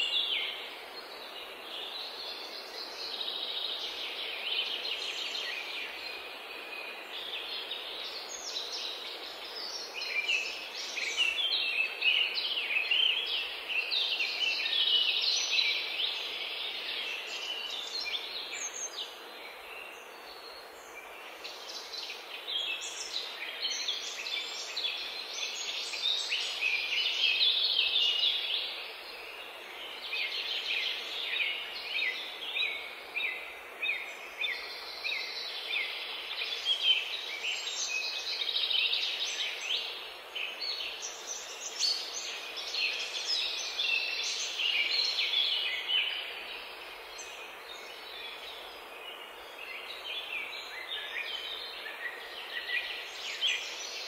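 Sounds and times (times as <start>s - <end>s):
small birds chirping: 0.0s - 54.0s
steady background hiss: 0.0s - 54.0s.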